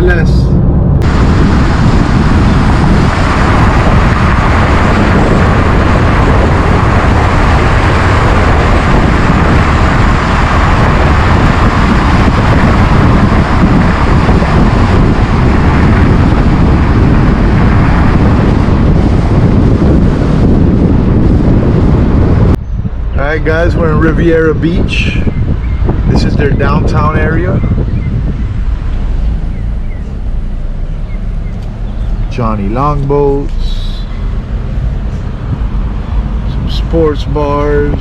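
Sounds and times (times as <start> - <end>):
wind and road noise: 0.0 - 38.0
wind buffeting microphone: 0.0 - 38.0.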